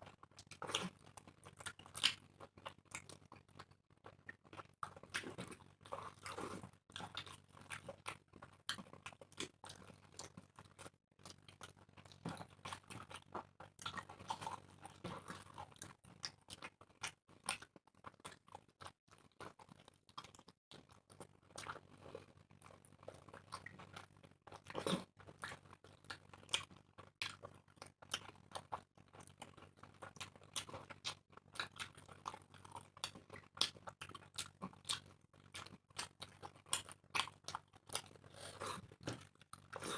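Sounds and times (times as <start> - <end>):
people chewing food: 0.0 - 39.9.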